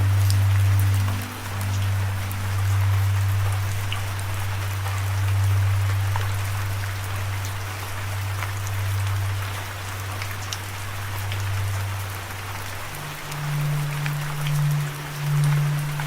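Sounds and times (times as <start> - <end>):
low sustained drone: 0.0 - 16.0
rain falling: 0.0 - 16.0.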